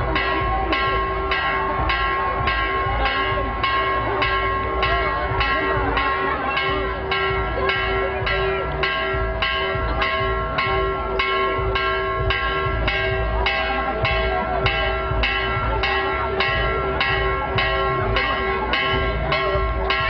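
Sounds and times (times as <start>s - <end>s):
church bell ringing: 0.0s - 20.0s.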